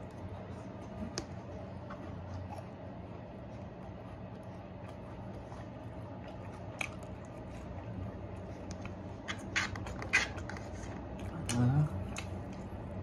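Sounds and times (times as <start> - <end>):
chewing: 0.0 - 13.0
steady low hum: 0.0 - 13.0.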